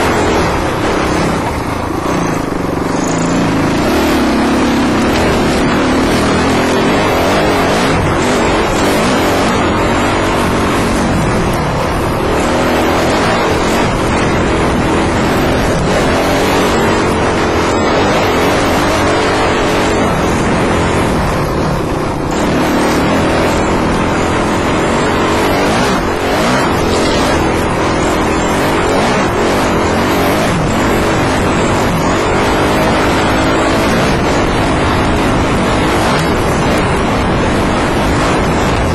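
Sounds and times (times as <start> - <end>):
dirt bike engine revving: 0.0 - 38.9
wind noise: 0.0 - 38.9.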